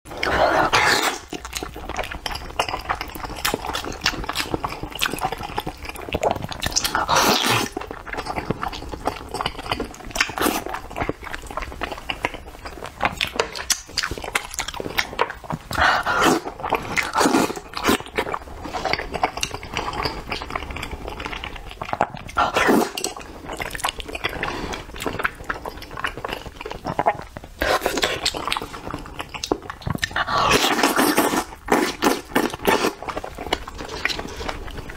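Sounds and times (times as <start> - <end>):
person slurping and chewing: 0.1 - 34.9.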